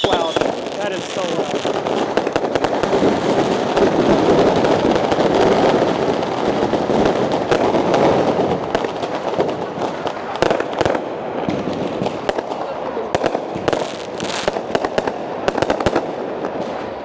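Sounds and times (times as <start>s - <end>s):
firecrackers crackling: 0.0s - 17.0s.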